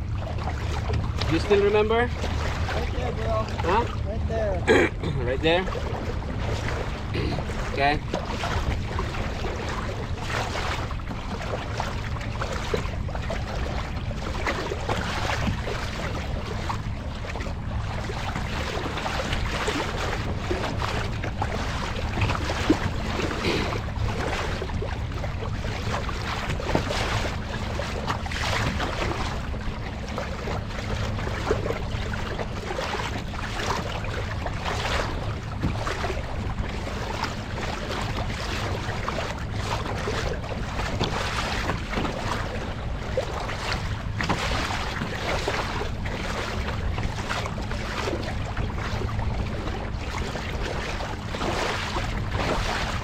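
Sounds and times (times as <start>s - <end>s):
steady low hum: 0.0s - 53.0s
water splashing against hull: 0.0s - 53.0s.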